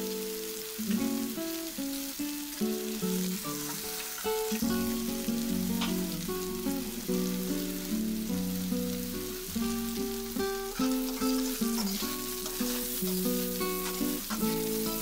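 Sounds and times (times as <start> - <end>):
food sizzling in oil: 0.0 - 15.0
instrumental background music: 0.4 - 15.0.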